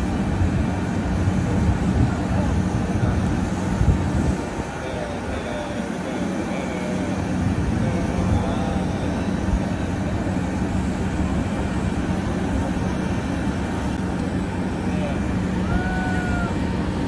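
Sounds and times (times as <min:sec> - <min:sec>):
steady machinery drone: 0:00.0 - 0:17.0.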